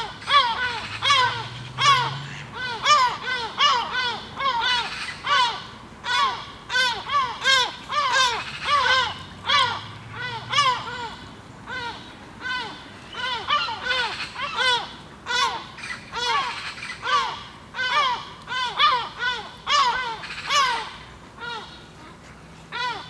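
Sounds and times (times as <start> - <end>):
birds giving harsh alarm calls: 0.0 - 21.8.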